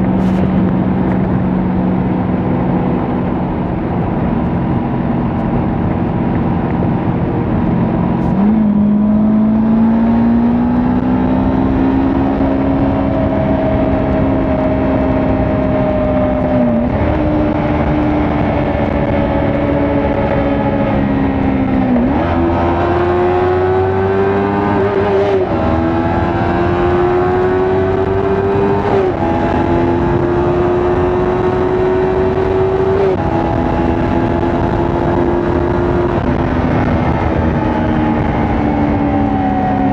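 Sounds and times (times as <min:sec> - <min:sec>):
motorcycle engine running at speed: 0:00.0 - 0:39.9
wind and road noise: 0:00.0 - 0:39.9.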